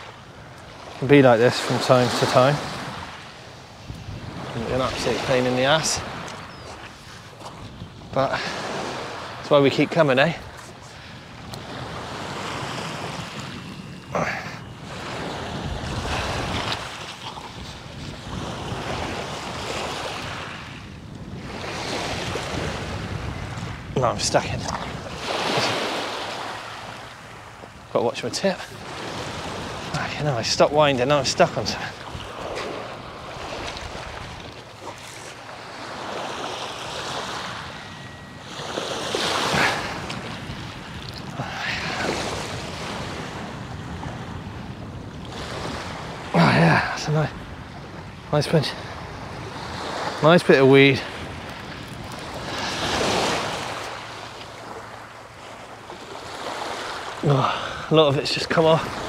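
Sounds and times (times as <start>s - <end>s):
wind buffeting microphone: 0.0s - 57.9s
small waves washing: 0.0s - 59.0s.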